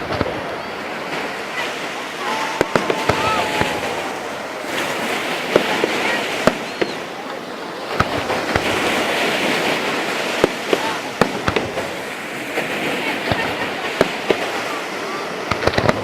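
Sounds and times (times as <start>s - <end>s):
fireworks bangs: 0.0s - 16.0s
fireworks crackling hiss: 0.0s - 16.0s
fireworks whistles: 0.0s - 16.0s.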